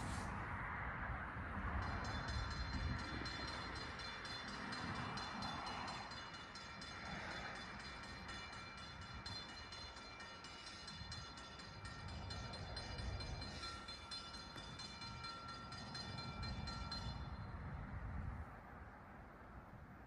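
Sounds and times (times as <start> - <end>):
distant train rumble: 0.0 - 20.0.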